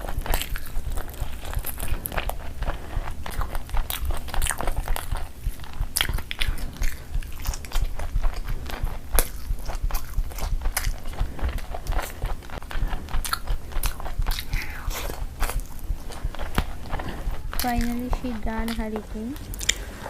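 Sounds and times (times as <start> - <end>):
wet mouth clicks and smacks: 0.0 - 18.8, 19.4 - 19.9
chewing and biting food: 0.0 - 20.0.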